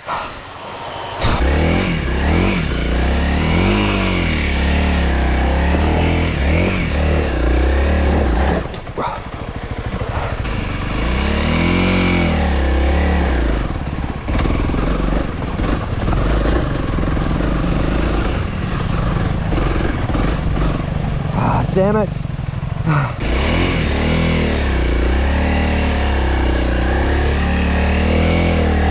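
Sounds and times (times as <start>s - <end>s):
dirt bike engine revving: 0.1s - 28.9s.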